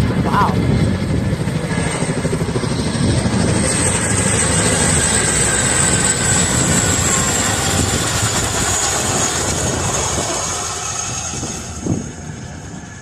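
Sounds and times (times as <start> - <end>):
helicopter rotors beating: 0.0 - 13.0
high turbine whine: 0.0 - 13.0.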